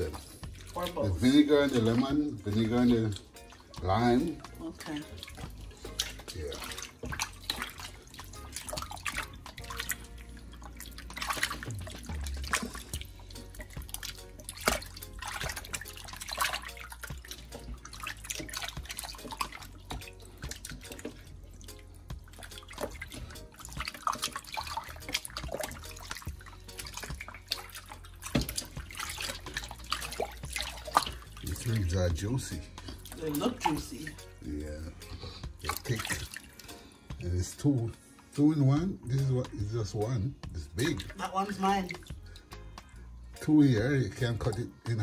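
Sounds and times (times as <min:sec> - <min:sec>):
water sloshing and splashing in bowl: 0:00.0 - 0:45.0.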